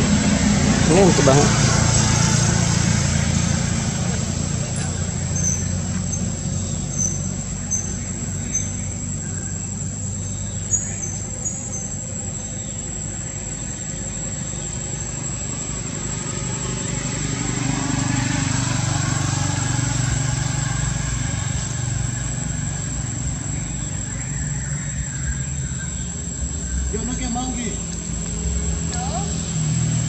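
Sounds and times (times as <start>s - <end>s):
vehicle engine passing: 0.0s - 30.0s.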